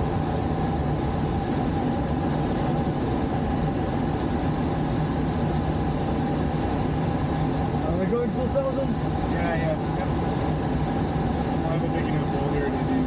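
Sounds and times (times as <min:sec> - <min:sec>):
air rushing over canopy: 0:00.0 - 0:13.0
airplane engine drone: 0:00.0 - 0:13.0.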